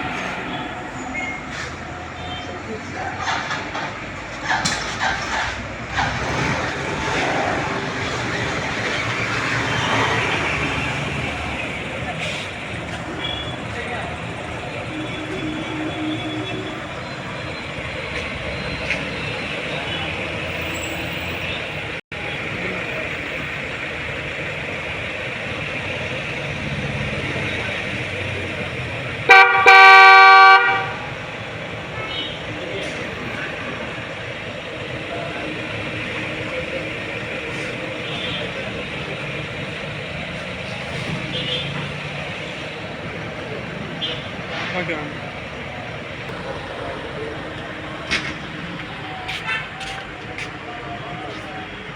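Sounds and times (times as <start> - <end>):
vehicle rumbling hiss: 0.0 - 51.9.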